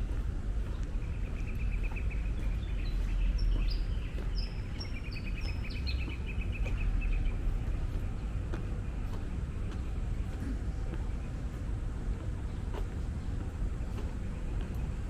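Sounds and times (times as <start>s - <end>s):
low background rumble: 0.0s - 15.0s
songbird singing: 0.0s - 15.0s.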